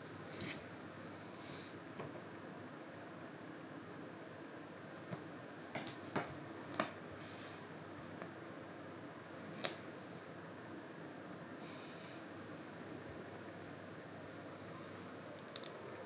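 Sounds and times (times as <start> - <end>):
room hiss: 0.0 - 16.0.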